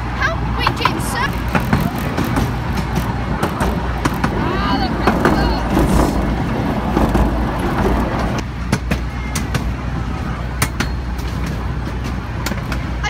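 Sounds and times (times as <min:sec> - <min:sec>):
railway carriage rumbling: 0:00.0 - 0:13.0
wheels clicking over rail joints: 0:00.6 - 0:13.0.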